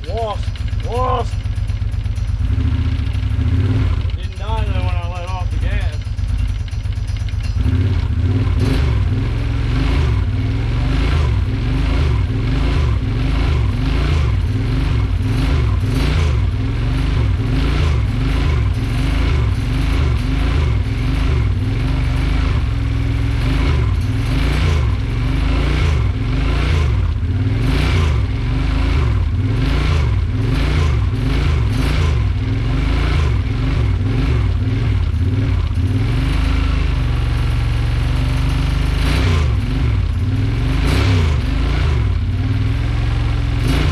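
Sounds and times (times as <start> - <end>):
engine revving: 0.0 - 43.9.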